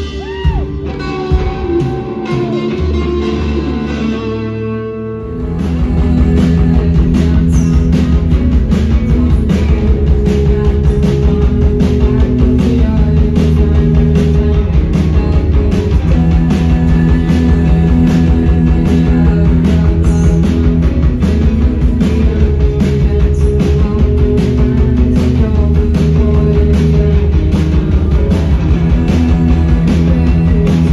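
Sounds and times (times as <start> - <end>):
drum beat: 0.0 - 3.3, 5.4 - 30.9
electric guitars: 0.0 - 30.9.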